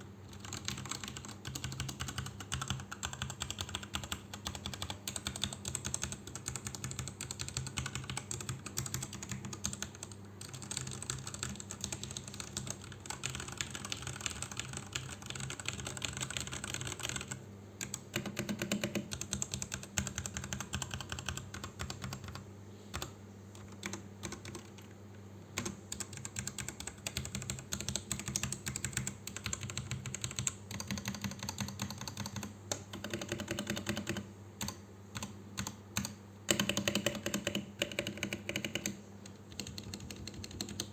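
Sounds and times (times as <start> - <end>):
mechanical keyboard typing: 0.3 - 22.4, 23.0 - 24.9, 25.6 - 40.9.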